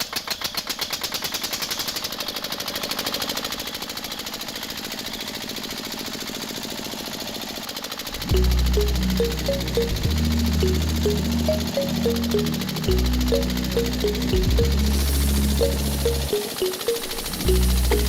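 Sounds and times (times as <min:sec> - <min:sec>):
small single-cylinder engine running: 0:00.2 - 0:18.0.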